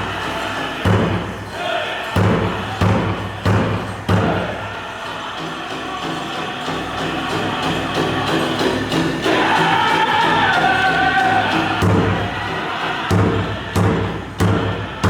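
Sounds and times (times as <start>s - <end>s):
big drum beats: 0.0s - 15.0s
drum group singing: 0.0s - 15.0s.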